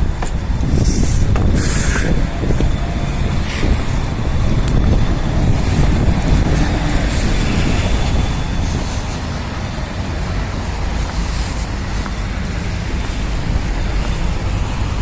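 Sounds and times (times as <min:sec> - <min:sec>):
passing cars and buses: 0:00.0 - 0:15.0
wind buffeting microphone: 0:00.0 - 0:15.0.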